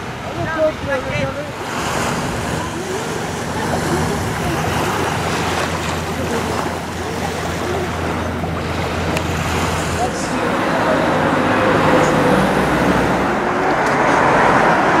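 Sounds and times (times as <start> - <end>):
small waves lapping on shore: 0.0 - 15.0.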